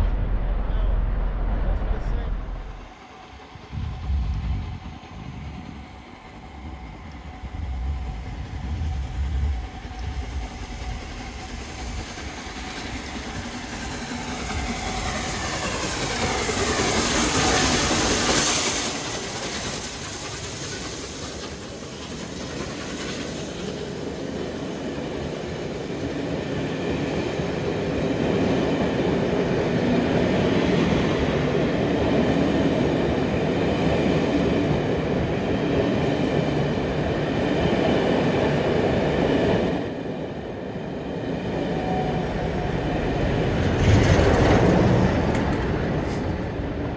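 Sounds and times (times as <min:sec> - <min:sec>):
train wheels clattering on rails: 0:02.7 - 0:46.9.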